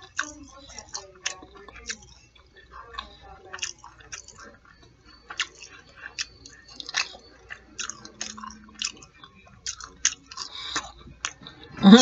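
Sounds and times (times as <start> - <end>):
person chewing fried food: 0.0 - 11.8.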